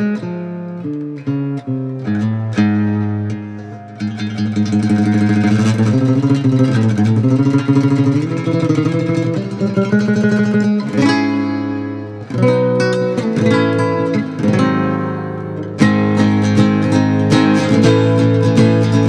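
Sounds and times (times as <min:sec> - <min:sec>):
nylon-string guitar strumming: 0:00.0 - 0:19.0.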